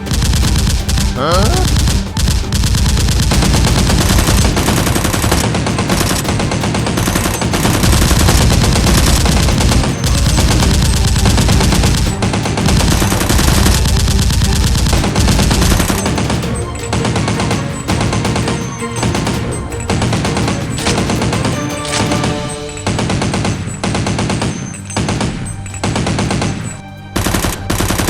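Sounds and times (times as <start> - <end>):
machine-gun fire: 0.0 - 28.0.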